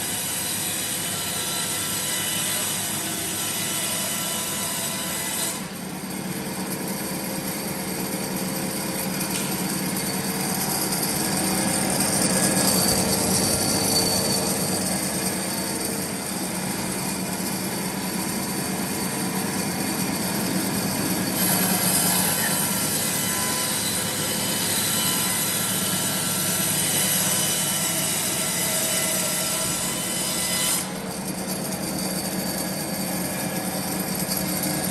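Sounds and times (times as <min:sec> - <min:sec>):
sawmill machinery running: 0:00.0 - 0:34.9.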